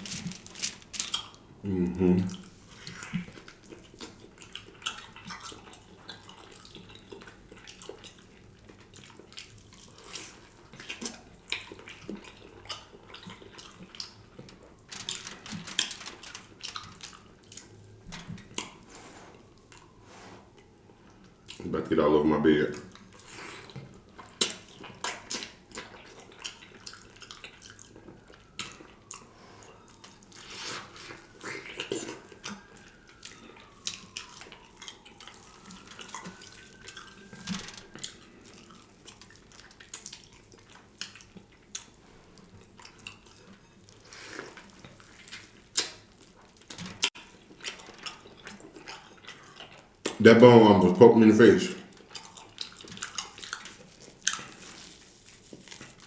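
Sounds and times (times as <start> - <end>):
wet smacking and chewing: 0.0 - 1.6, 2.2 - 56.0.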